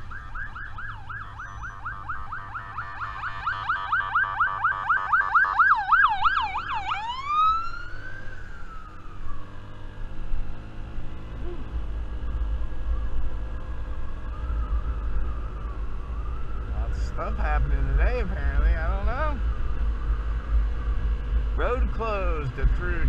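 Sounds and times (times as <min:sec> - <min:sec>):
police siren: 0:00.0 - 0:23.0.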